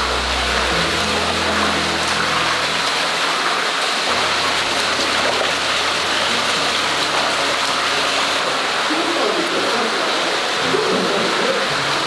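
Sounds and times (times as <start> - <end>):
eels churning in water: 0.0 - 10.6
water pouring and splashing: 0.0 - 12.0.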